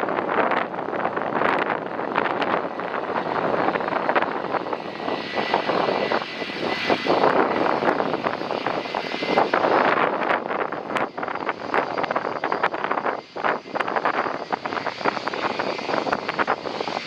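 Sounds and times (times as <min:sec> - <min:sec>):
jet airliner engines passing: 0:00.0 - 0:17.0
wind buffeting microphone: 0:00.0 - 0:17.0.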